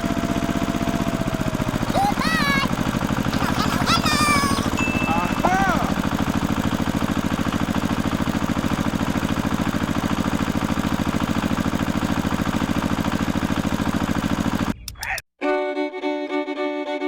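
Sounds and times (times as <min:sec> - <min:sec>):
small engine idling: 0:00.0 - 0:14.9.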